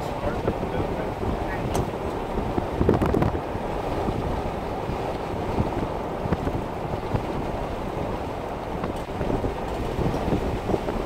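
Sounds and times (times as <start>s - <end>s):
road and engine rumble: 0.0s - 11.0s
wind buffeting microphone: 0.0s - 11.0s.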